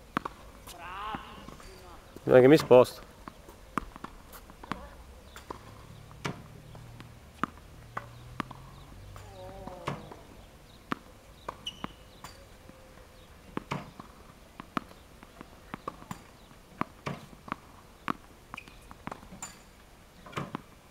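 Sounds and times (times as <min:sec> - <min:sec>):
tennis balls bouncing on court: 0:00.0 - 0:20.8.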